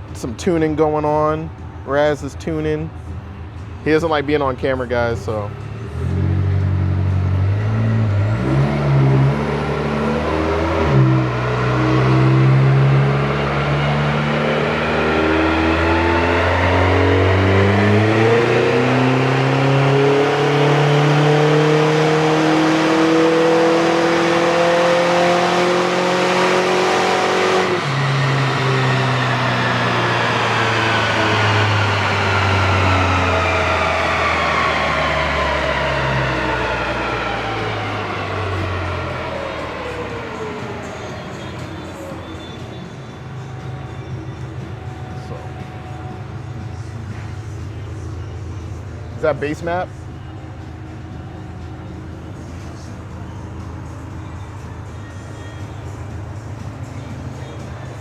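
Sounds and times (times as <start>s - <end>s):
car engine revving on a dyno: 5.2s - 58.0s.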